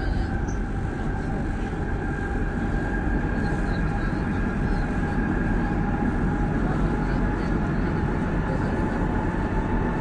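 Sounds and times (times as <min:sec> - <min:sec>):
thin steady whine: 0:00.0 - 0:10.0.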